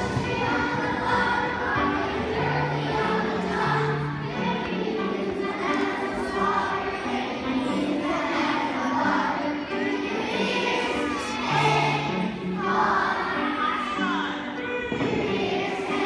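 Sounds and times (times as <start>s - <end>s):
children's choir singing: 0.0s - 16.0s
musical accompaniment: 0.0s - 16.0s.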